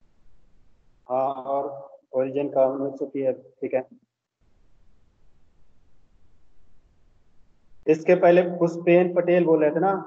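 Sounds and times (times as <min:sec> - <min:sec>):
faint microphone hiss: 0:00.0 - 0:10.0.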